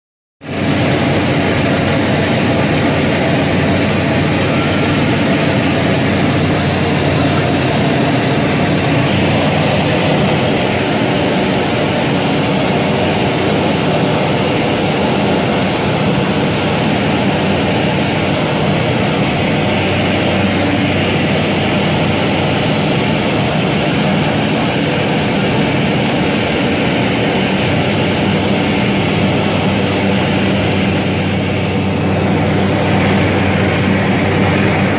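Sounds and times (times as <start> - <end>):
propeller aircraft engine drone: 0.4 - 34.9.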